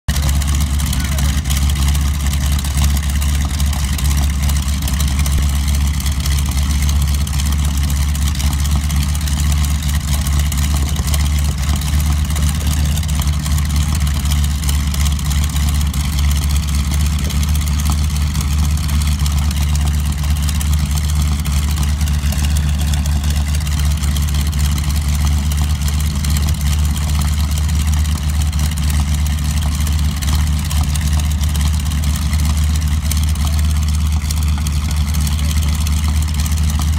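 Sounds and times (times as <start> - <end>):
radial aircraft engine idling: 0.1 - 36.9.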